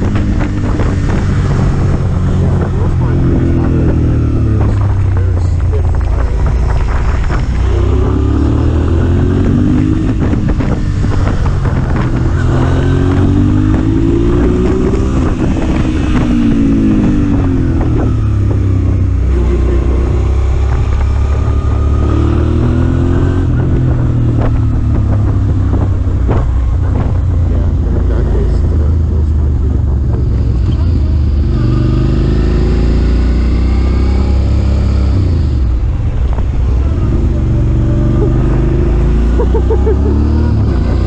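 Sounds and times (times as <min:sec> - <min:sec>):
motorcycle engine accelerating: 0:00.0 - 0:41.0
wind rushing over microphone: 0:00.0 - 0:41.0.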